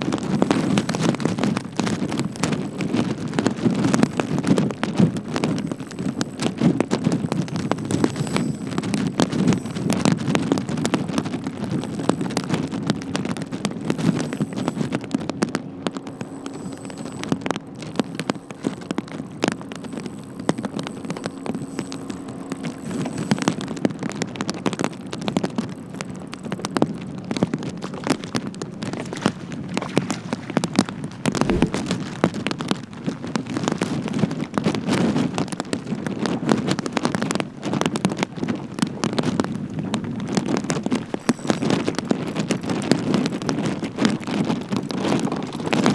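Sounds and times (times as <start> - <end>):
rain pattering on a boat: 0.0 - 45.9.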